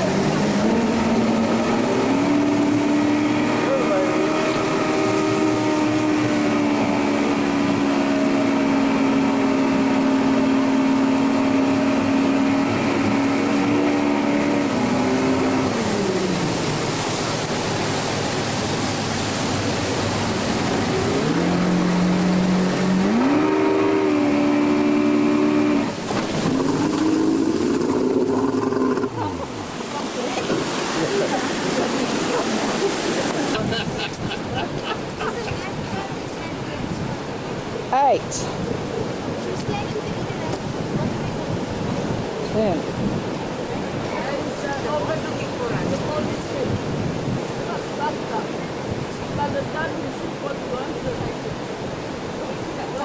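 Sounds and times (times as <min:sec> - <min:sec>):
outboard motors running: 0:00.0 - 0:53.0
rush of wind and water: 0:00.0 - 0:53.0.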